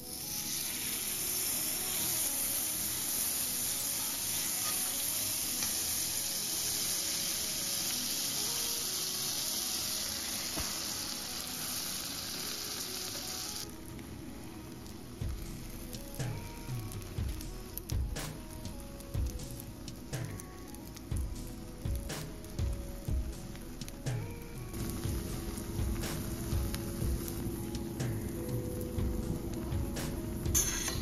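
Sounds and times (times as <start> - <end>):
butter sizzling in a skillet: 0.0 - 31.0.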